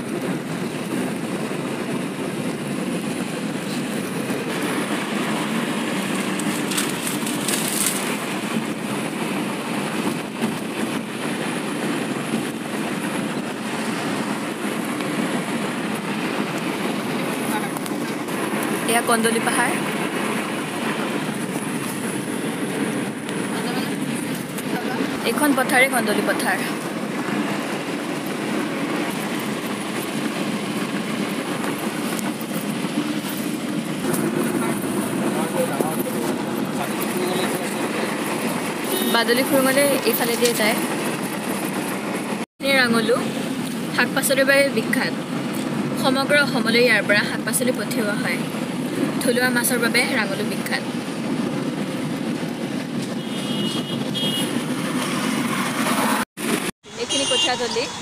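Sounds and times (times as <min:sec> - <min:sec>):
road and wind noise in car: 0:00.0 - 0:58.0.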